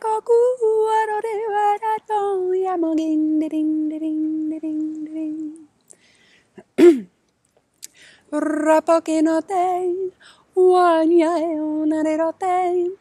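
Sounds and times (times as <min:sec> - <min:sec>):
woman singing wordless syllables: 0:00.0 - 0:05.8, 0:07.8 - 0:13.0.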